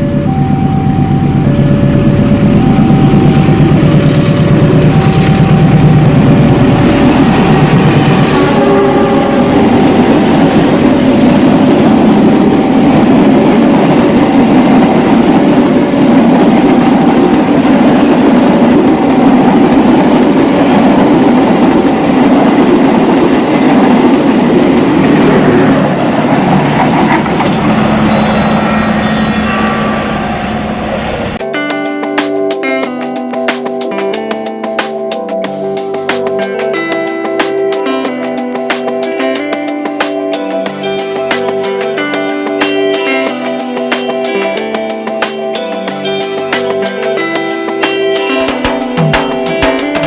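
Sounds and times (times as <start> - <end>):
guitar music: 0.0 - 50.0
train wheels rumbling on rails: 0.0 - 50.0.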